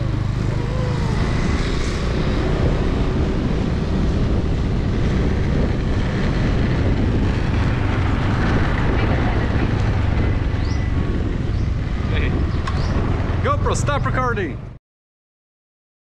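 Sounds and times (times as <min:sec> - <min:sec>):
scooter engine running: 0:00.0 - 0:13.4
wind buffeting microphone: 0:00.0 - 0:14.7.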